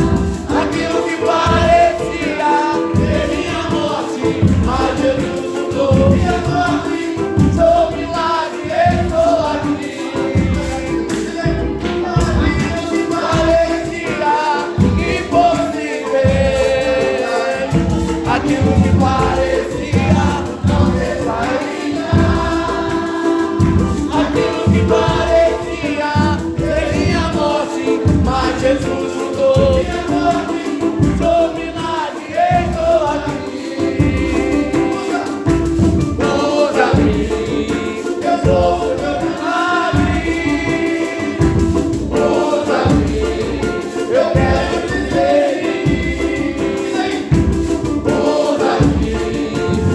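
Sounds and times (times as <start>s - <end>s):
band with steady beat: 0.0s - 49.9s
choir singing gospel: 0.0s - 49.9s.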